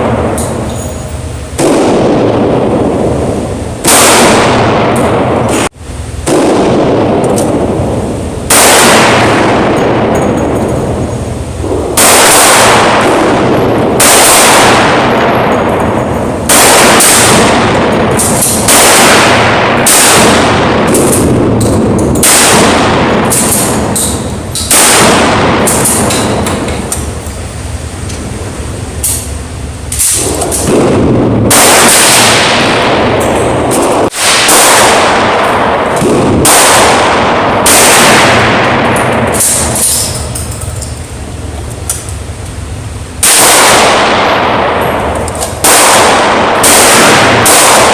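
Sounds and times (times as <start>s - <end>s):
pistol shots: 0.0s - 27.3s, 29.0s - 41.0s, 43.1s - 47.9s.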